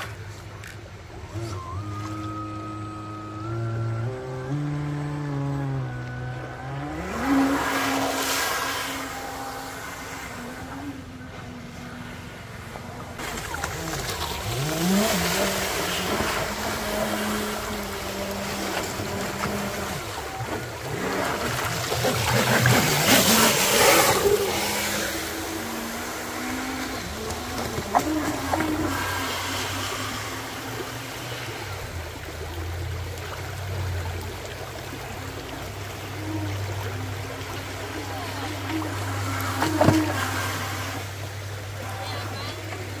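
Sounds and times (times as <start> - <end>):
model jet boat motor whine: 0.0 - 43.0
water rushing: 0.0 - 43.0.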